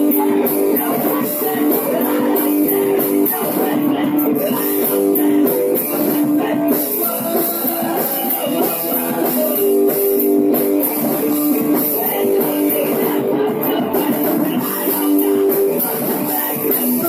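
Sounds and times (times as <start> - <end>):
rock guitars playing chords: 0.0 - 17.0.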